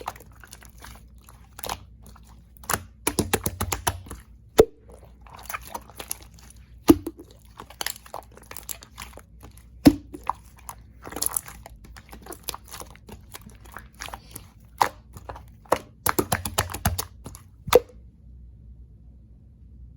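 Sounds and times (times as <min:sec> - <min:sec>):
slime squeezed by hand: 0:00.0 - 0:17.9.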